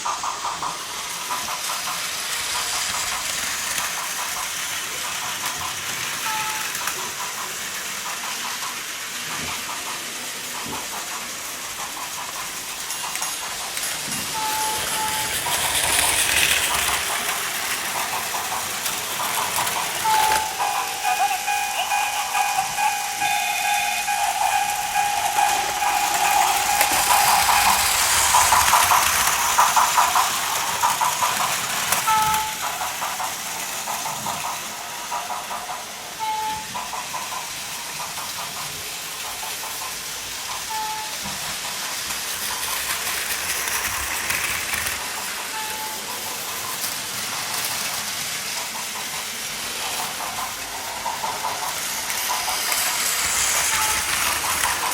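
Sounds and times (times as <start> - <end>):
wheels clattering on plastic track: 0.0 - 21.7, 24.0 - 54.9
toy train motors whirring: 0.0 - 54.9.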